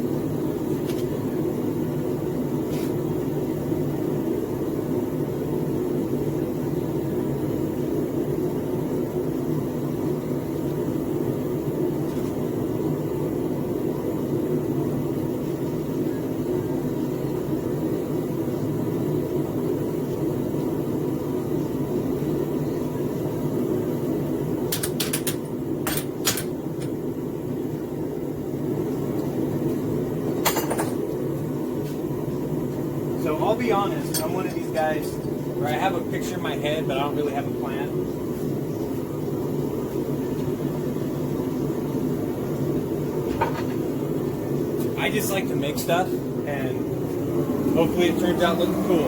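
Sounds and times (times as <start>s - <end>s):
gas forge burner running: 0.0s - 49.0s.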